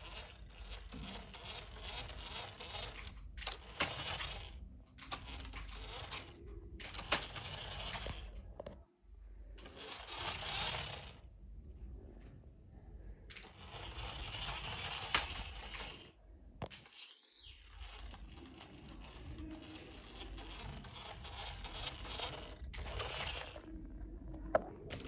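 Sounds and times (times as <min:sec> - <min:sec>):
toy trucks scraping: 0:00.0 - 0:08.7, 0:09.6 - 0:11.3, 0:13.3 - 0:25.0.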